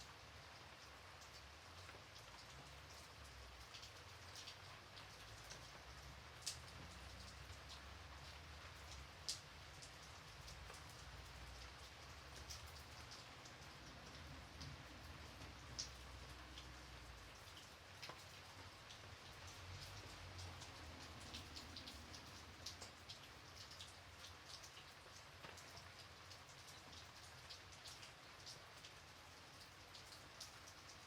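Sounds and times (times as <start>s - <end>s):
gentle rain: 0.0s - 31.0s.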